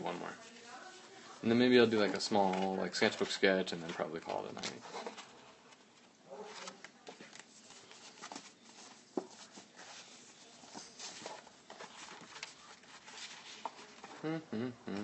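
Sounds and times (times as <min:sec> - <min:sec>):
paper rustling and shuffling: 0:00.0 - 0:14.2.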